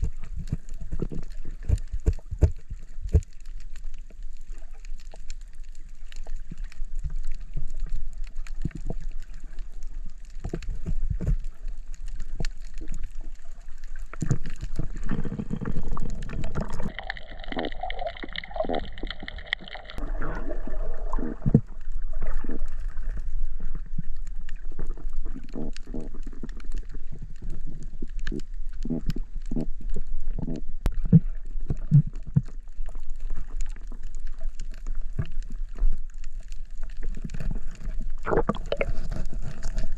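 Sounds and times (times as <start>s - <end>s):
small underwater clicks and knocks: 0.0s - 20.0s, 21.2s - 39.9s
water churning: 0.0s - 27.2s, 29.2s - 39.9s
muffled underwater gurgling: 6.6s - 36.0s, 36.9s - 39.9s.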